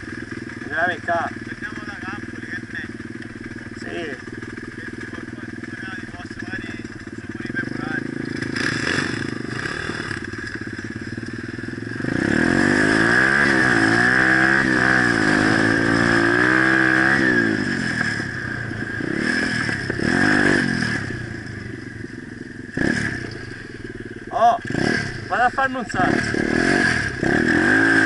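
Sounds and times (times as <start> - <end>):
small motorbike engine revving: 0.0 - 28.0.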